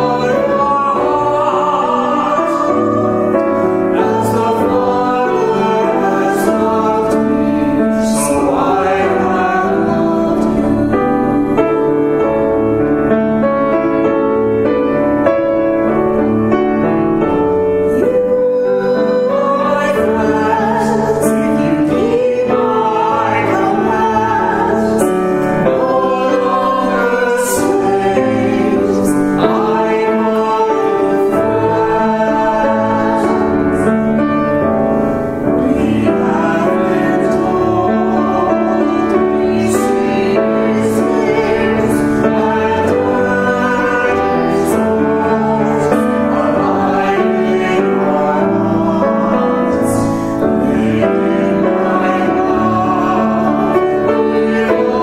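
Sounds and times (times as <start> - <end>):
woman singing a hymn: 0.0 - 12.7, 17.9 - 34.0, 35.6 - 55.0
piano accompaniment: 0.0 - 55.0.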